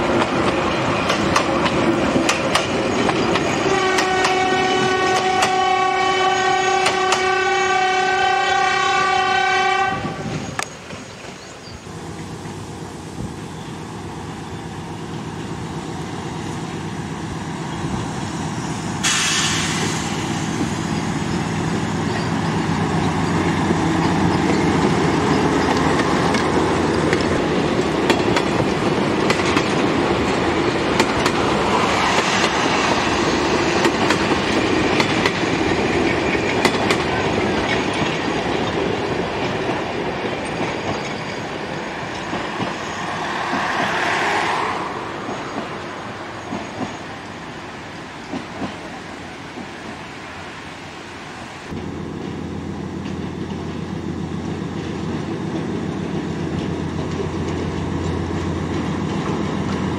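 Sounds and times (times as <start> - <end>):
train wheels clicking on rail joints: 0.0 - 5.7, 6.4 - 7.4, 10.2 - 44.4, 45.1 - 50.1, 51.7 - 59.9
diesel locomotive engine drone: 0.0 - 59.9
minibus passing: 0.0 - 59.9.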